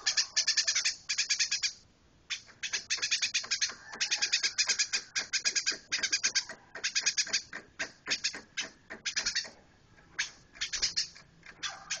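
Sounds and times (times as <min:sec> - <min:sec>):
sparrow chirping: 0:00.0 - 0:12.0.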